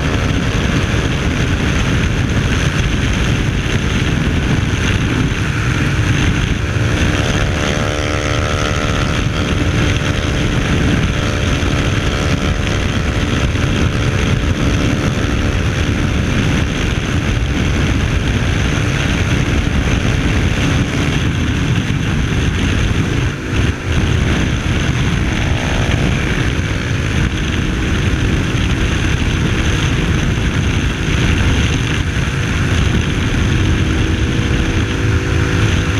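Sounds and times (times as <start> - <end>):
motorcycle engine at speed: 0.0 - 35.9
wind and road rush: 0.0 - 35.9.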